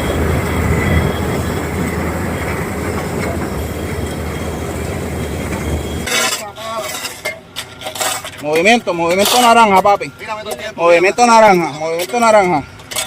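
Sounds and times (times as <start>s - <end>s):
heavy diesel machinery rumbling: 0.0s - 13.0s.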